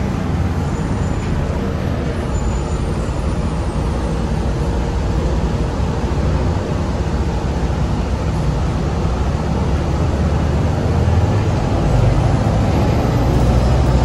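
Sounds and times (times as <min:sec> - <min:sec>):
bus engine low rumble: 0:00.0 - 0:14.0
road noise: 0:00.0 - 0:14.0.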